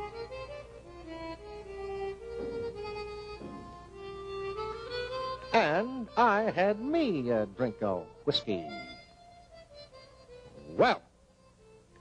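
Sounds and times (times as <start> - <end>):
slow melody of long held notes: 0.0 - 12.0.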